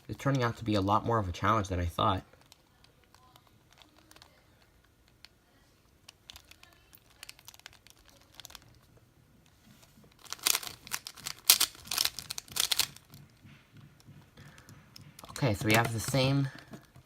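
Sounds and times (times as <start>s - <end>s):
puzzle cube clacking turns: 2.0s - 17.0s.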